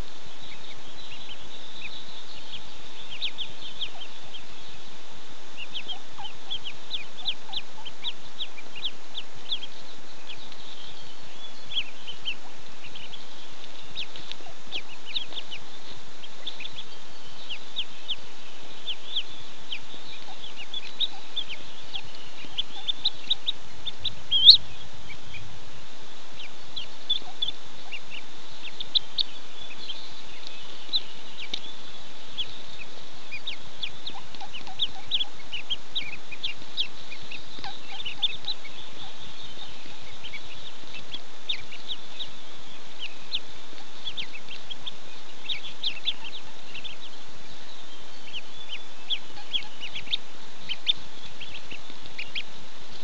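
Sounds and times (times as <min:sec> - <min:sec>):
ducklings peeping: 0:00.0 - 0:53.0
steady hiss: 0:00.0 - 0:53.0.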